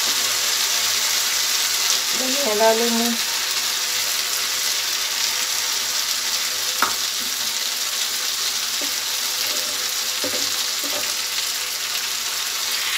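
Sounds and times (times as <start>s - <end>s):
food sizzling in pan: 0.0s - 12.9s.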